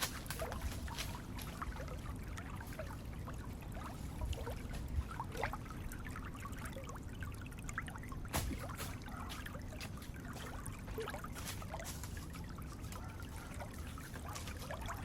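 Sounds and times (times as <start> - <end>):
water trickling and plopping: 0.0 - 15.0.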